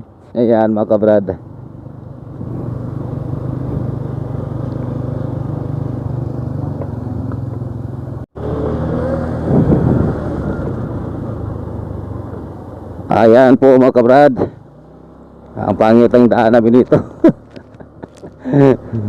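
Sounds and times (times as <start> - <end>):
wind and road noise: 0.0 - 19.0
motorcycle engine running: 1.4 - 19.0.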